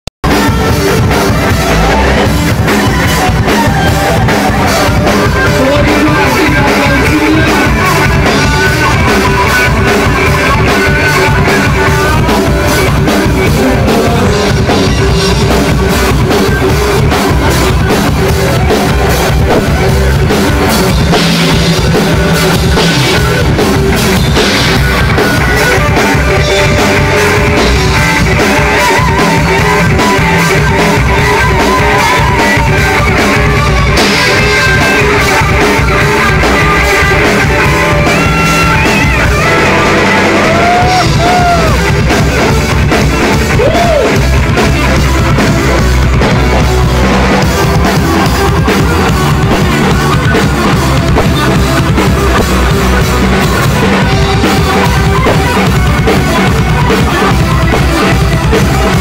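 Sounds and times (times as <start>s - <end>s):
drum kit: 0.2s - 59.0s
electric guitar solo: 0.3s - 59.0s.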